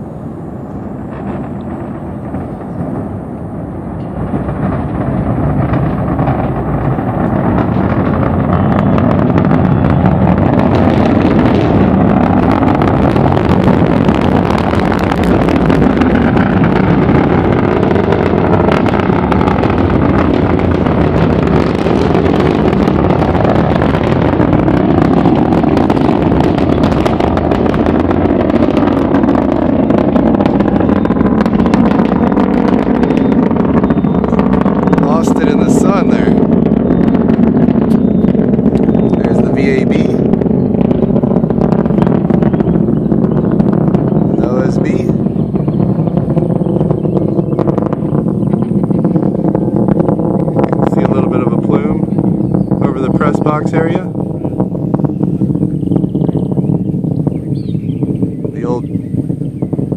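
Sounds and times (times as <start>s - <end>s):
distant rocket engine rumble: 0.0s - 59.9s.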